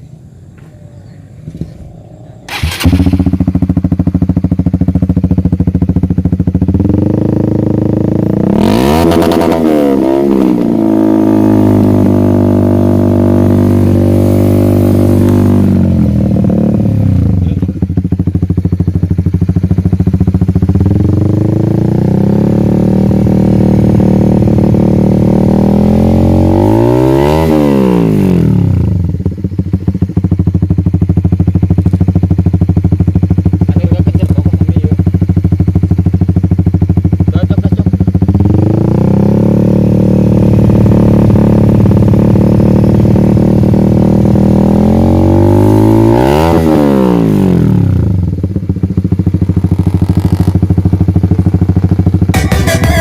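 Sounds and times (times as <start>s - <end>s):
motorcycle engine idling: 0.0s - 8.5s, 10.7s - 44.7s, 47.3s - 53.0s.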